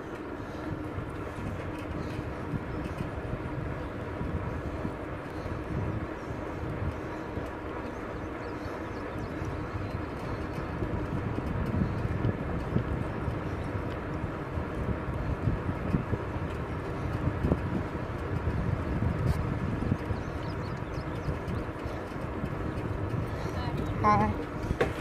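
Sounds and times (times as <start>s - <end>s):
bicycle tyres rolling on asphalt: 0.0s - 25.0s
wind buffeting microphone: 0.0s - 25.0s.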